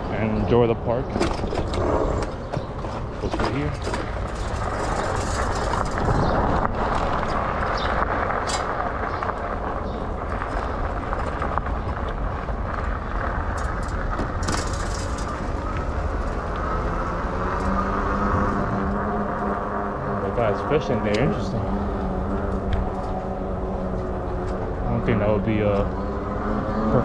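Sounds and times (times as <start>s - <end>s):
tyre and road rumble: 0.0s - 27.0s
wind rushing on microphone: 0.0s - 27.0s
bike clicks and rattles: 0.2s - 26.4s.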